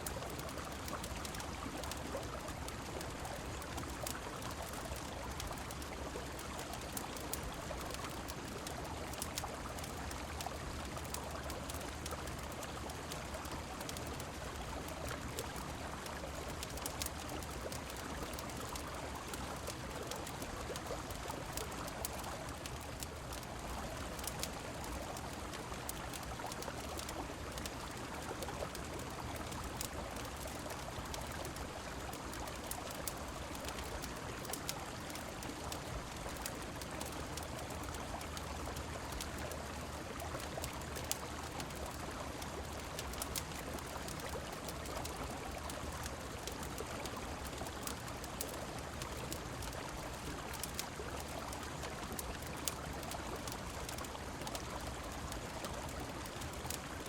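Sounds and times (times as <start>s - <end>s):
rain: 0.0s - 57.0s
wood fire crackling: 0.0s - 57.0s.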